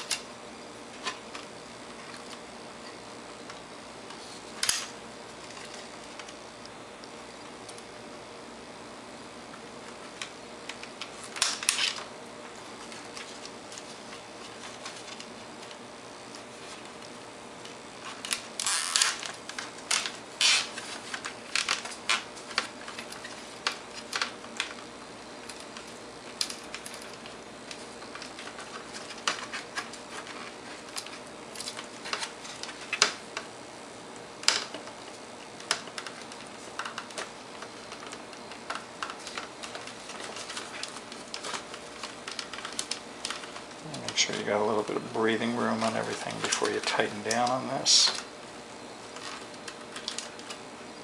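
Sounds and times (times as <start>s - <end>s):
clicks and scrapes of handling plastic: 0.0s - 6.4s, 9.6s - 33.5s, 34.4s - 48.3s, 49.0s - 50.7s
faint steady hum: 0.0s - 51.0s.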